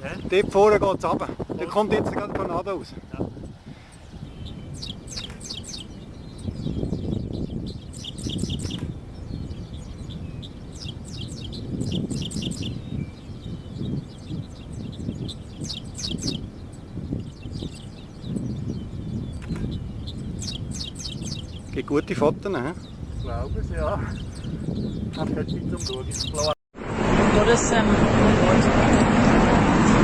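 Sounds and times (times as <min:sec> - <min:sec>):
small birds chirping: 0:00.0 - 0:26.6
wind rumble on microphone: 0:00.0 - 0:30.0.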